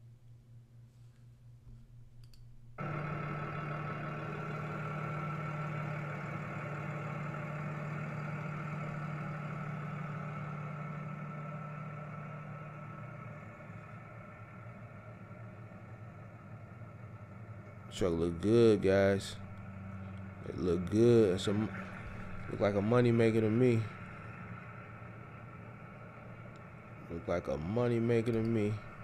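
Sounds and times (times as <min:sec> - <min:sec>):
truck engine idling: 0:02.8 - 0:29.0.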